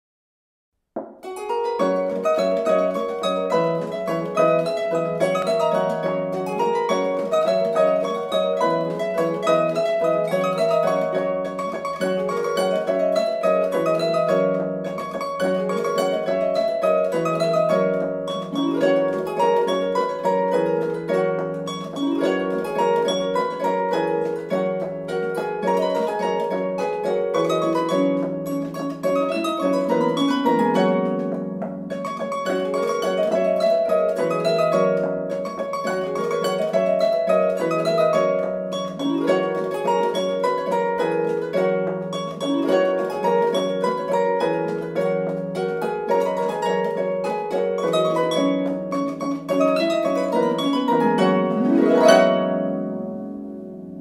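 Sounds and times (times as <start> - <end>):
harps playing a dance tune: 1.1 - 54.0.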